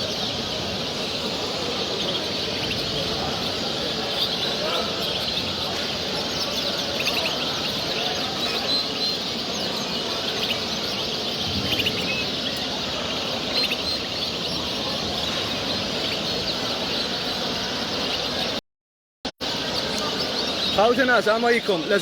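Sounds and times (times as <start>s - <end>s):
caged birds chirping and singing: 0.0s - 18.6s, 19.4s - 22.0s.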